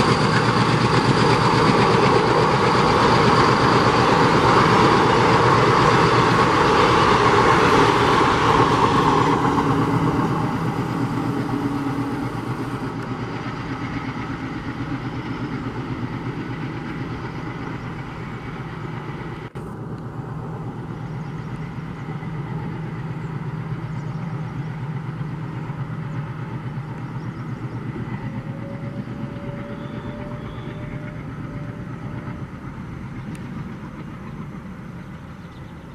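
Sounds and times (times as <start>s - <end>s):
passenger train rolling past: 0.0s - 35.9s.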